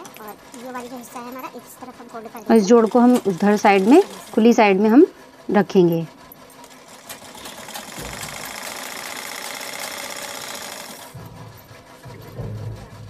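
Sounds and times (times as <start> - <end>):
sewing machine running: 0.0 - 12.1.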